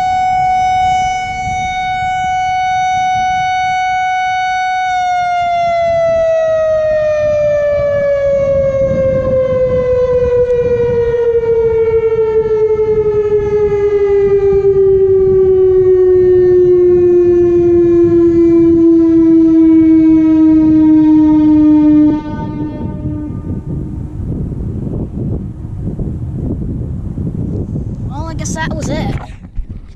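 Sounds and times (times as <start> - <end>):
warning siren winding down: 0.0 - 27.6.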